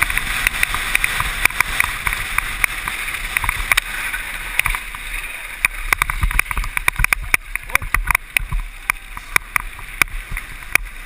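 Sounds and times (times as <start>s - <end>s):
sharp clicks and knocks: 0.0s - 3.9s, 4.5s - 5.0s, 5.6s - 11.0s
bike clattering and rattling: 0.0s - 11.0s
steady rushing noise: 0.0s - 11.0s.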